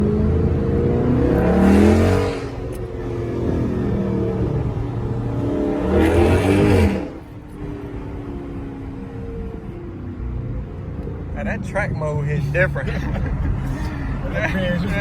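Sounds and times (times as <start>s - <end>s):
engine exhaust revving: 0.0s - 15.0s
engine idling: 0.0s - 15.0s.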